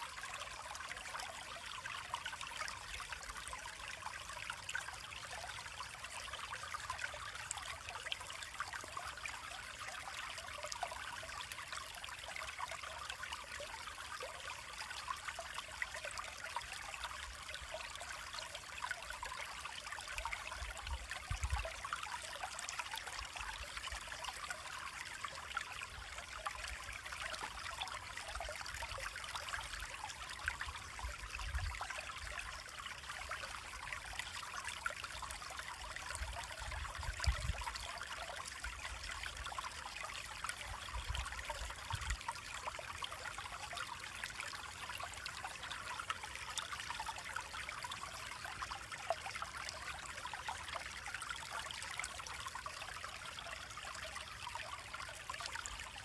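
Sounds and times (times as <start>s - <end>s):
creek trickling over rocks: 0.0s - 56.0s.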